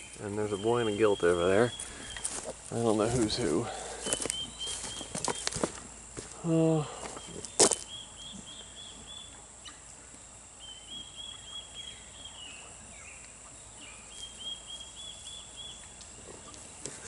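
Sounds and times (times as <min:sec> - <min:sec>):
songbird trilling: 0:00.0 - 0:05.6, 0:07.2 - 0:09.8, 0:10.6 - 0:16.8.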